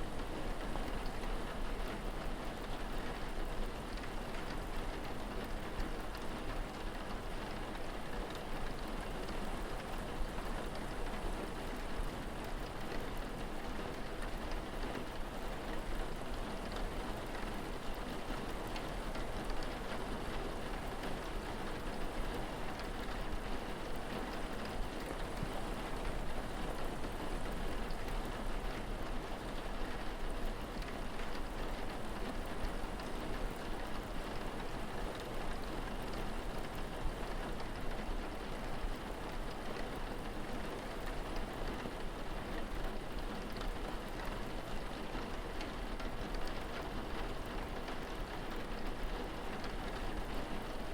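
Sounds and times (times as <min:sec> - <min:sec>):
steady rain patter: 0:00.0 - 0:50.9.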